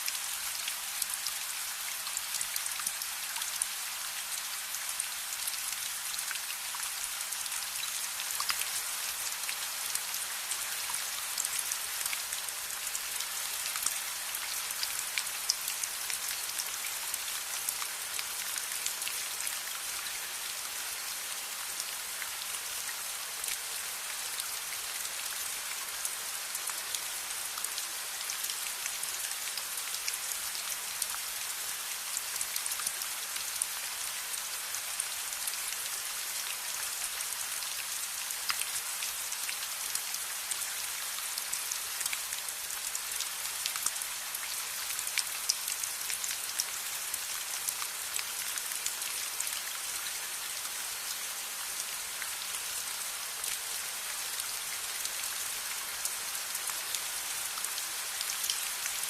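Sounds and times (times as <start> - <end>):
steady rain with drop ticks: 0.0 - 59.0.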